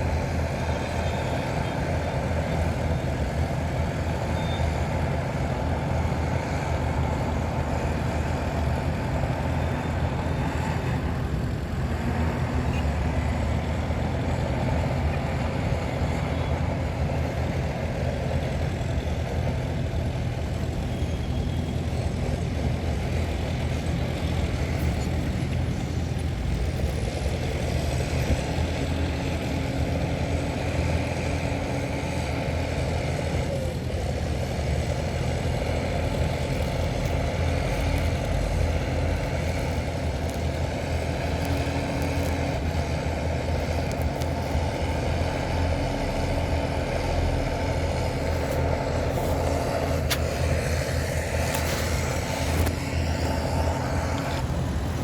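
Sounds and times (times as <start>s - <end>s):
heavy diesel engines rumbling: 0.0s - 55.0s.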